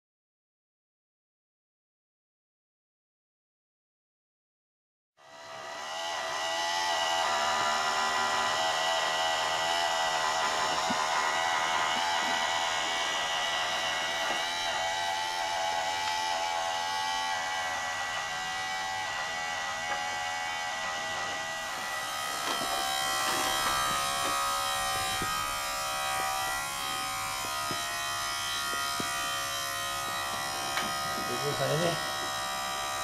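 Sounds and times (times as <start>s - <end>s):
mechanical whine: 5.2s - 33.0s.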